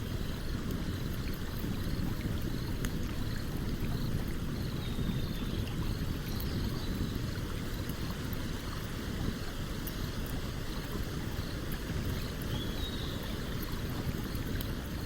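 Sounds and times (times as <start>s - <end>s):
faint campfire crackles: 0.0s - 15.0s.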